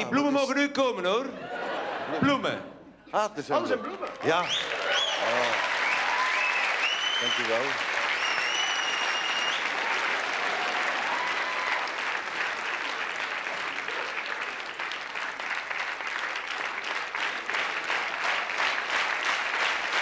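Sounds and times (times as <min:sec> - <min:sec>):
audience applauding: 0:03.8 - 0:20.0.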